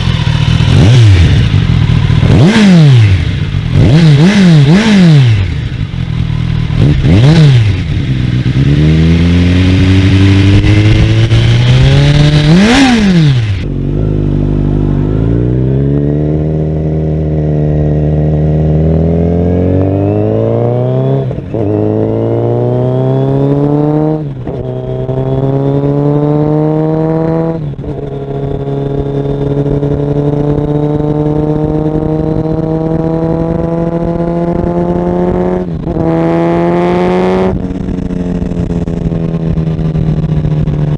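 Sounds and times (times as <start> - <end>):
motorcycle accelerating through gears: 0.0 - 40.9.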